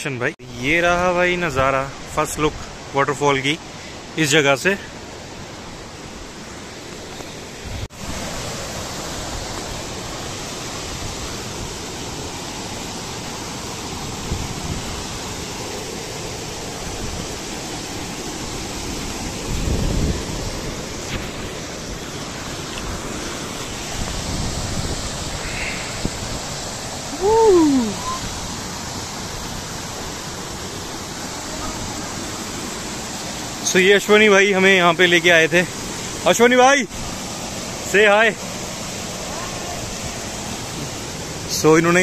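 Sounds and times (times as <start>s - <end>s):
stream and waterfall over rocks: 0.0s - 42.0s.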